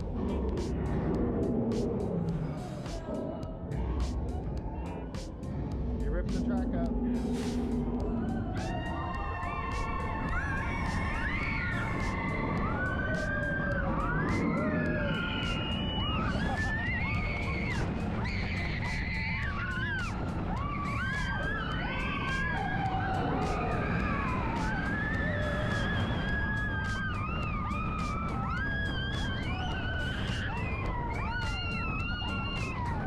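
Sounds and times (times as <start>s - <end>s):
music with wailing sliding tones: 0.0s - 33.0s
steady low rumble: 0.0s - 33.0s.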